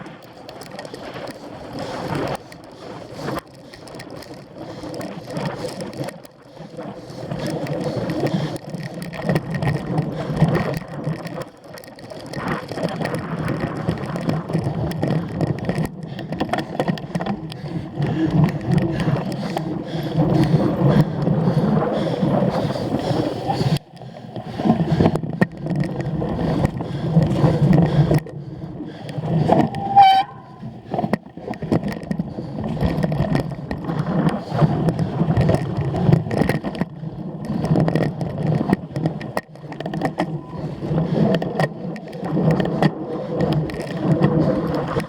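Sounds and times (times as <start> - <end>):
bike frame and chain rattling: 0.0 - 45.0.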